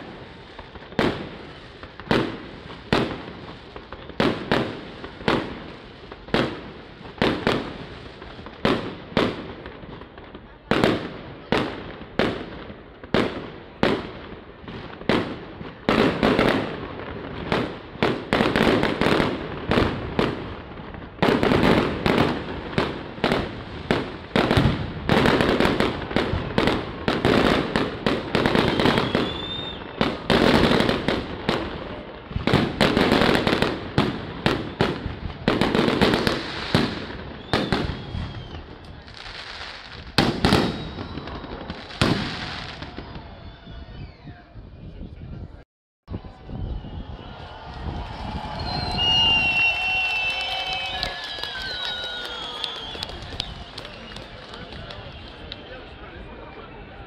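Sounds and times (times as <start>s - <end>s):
fireworks banging and crackling: 0.0s - 45.6s, 46.6s - 57.0s.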